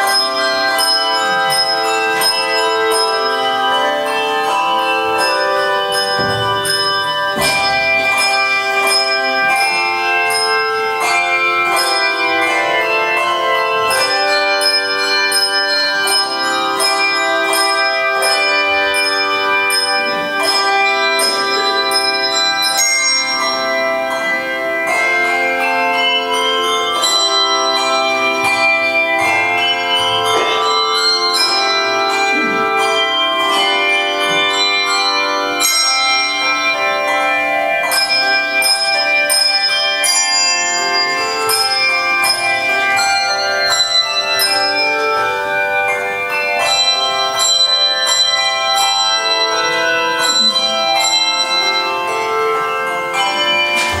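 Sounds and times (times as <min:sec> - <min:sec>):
handbell choir playing chords: 0:00.0 - 0:54.0.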